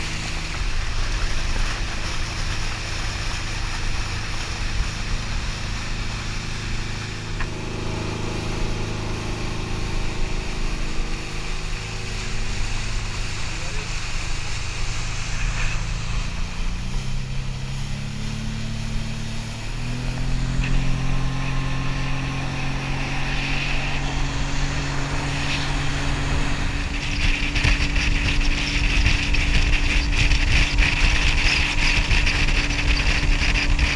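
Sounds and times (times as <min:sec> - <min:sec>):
boat engine running: 0:00.0 - 0:33.9
rushing water and wind: 0:00.0 - 0:33.9.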